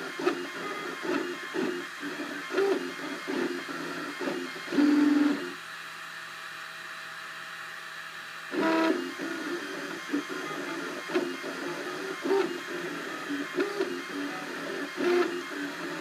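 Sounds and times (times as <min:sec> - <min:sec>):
stepper motors whining: 0:00.0 - 0:05.6, 0:08.5 - 0:16.0.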